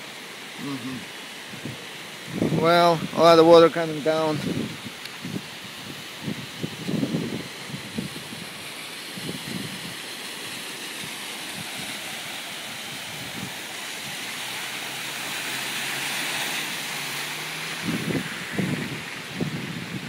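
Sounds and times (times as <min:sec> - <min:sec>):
floodwater rushing down street: 0:00.0 - 0:20.0.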